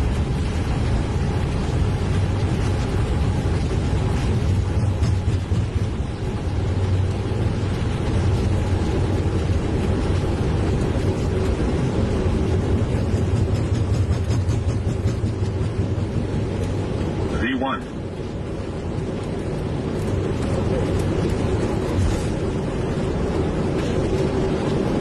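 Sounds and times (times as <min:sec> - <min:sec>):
jet cockpit rumble: 0:00.0 - 0:25.0.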